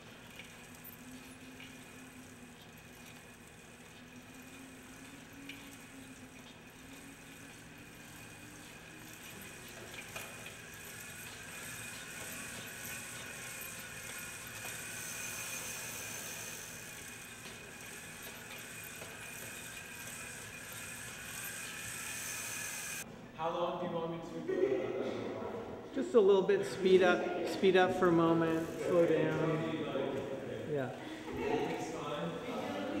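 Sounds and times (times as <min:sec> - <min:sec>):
bicycle chain and wheel whirring: 0:00.0 - 0:23.1, 0:27.6 - 0:33.0.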